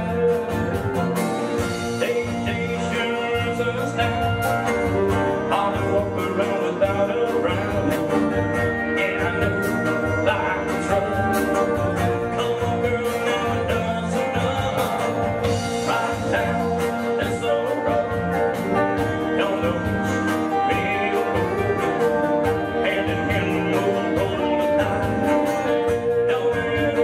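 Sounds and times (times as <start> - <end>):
bass guitar: 0.0 - 27.0
drum beat: 0.0 - 27.0
electric and acoustic guitars: 0.0 - 27.0
man singing lead vocal: 0.0 - 27.0.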